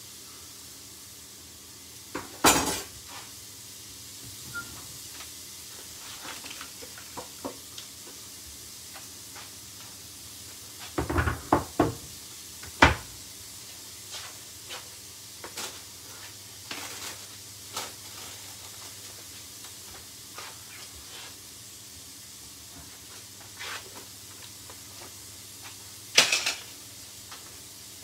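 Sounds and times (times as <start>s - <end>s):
pot sizzling faintly: 0.0s - 11.0s, 12.1s - 28.0s.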